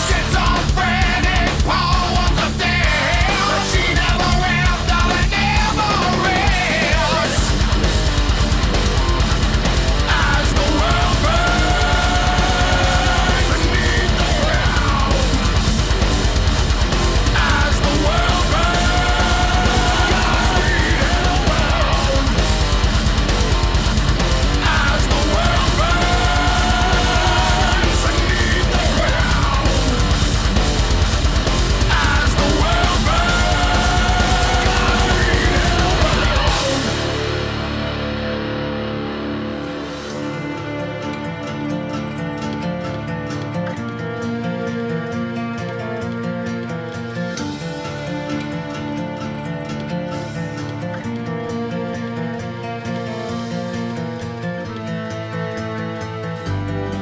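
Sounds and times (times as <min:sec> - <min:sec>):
heavy metal music: 0:00.0 - 0:57.0.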